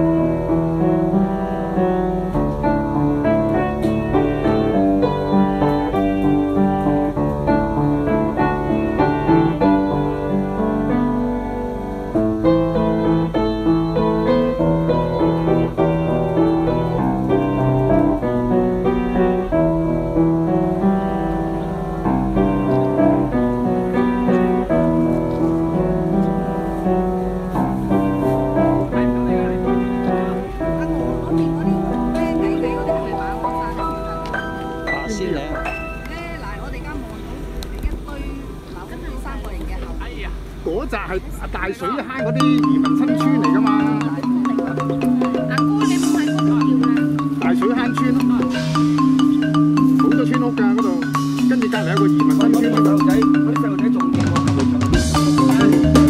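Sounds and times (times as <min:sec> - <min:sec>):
piano music: 0:00.0 - 0:39.3, 0:41.6 - 0:56.0.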